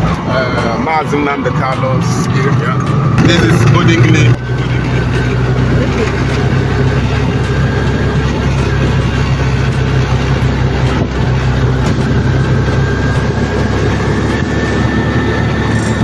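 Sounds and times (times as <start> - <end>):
auto-rickshaw engine running: 0.0 - 16.0.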